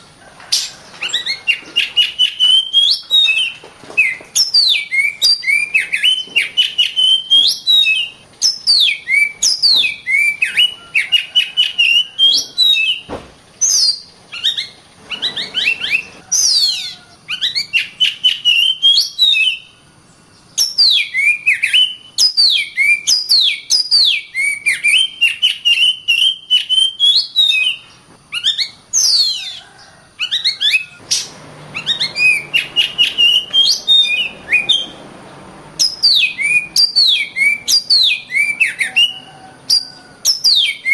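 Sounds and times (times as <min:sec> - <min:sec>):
bird singing whistled song: 0:00.0 - 0:35.0, 0:35.8 - 0:40.9.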